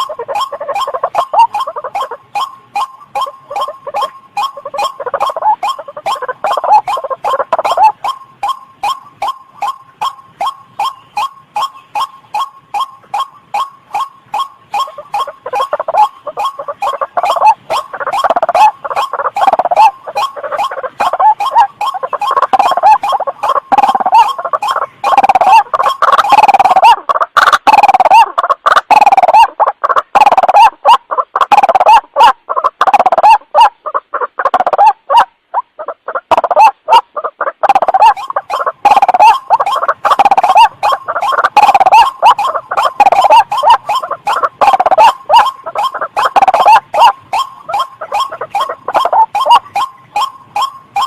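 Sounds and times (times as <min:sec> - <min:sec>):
bird calling harsh repeated notes: 0:00.0 - 0:51.0.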